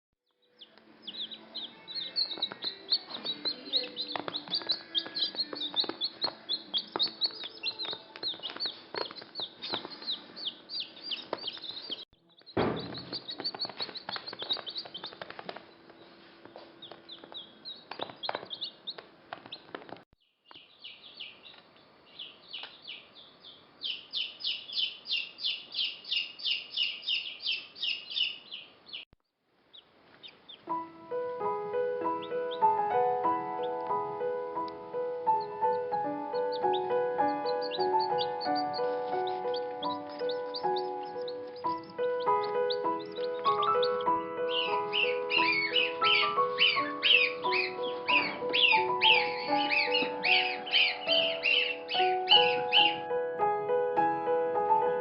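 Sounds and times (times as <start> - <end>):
young birds cheeping: 0.4 - 29.1, 29.7 - 30.8, 35.3 - 53.2.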